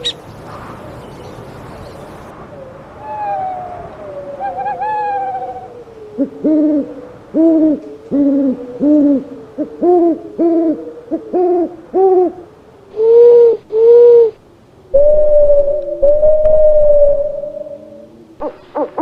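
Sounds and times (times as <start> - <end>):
small owl hooting: 2.6 - 19.0.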